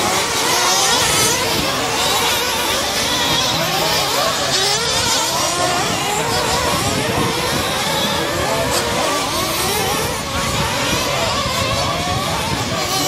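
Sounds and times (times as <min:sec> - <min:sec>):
rc truck motors buzzing: 0:00.0 - 0:13.0.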